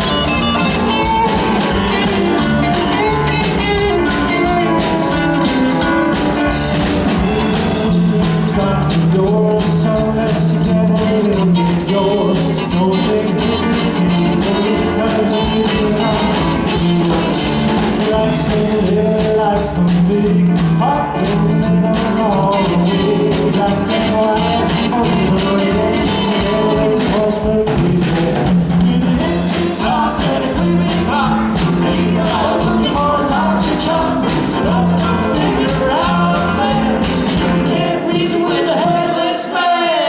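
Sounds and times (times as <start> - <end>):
drums keeping a beat: 0.0 - 38.2
swing band playing: 0.0 - 40.0.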